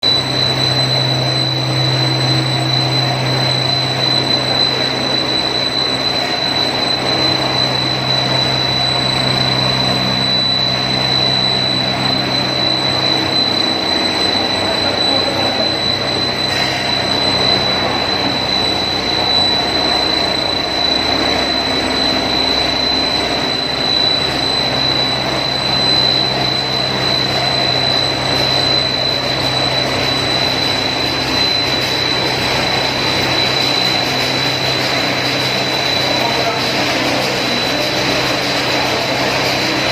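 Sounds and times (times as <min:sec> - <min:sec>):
high-pitched machine whine: 0:00.0 - 0:39.9.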